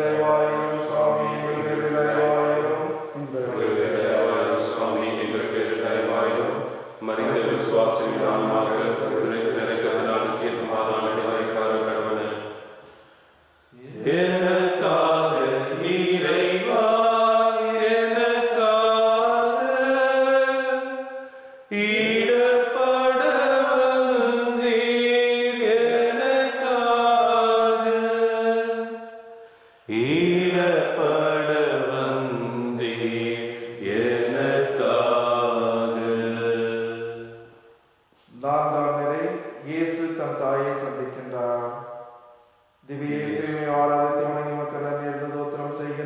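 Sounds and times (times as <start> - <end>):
person chanting a hymn: 0.0 - 13.1, 13.7 - 29.2, 29.9 - 37.4, 38.2 - 41.9, 42.8 - 46.0.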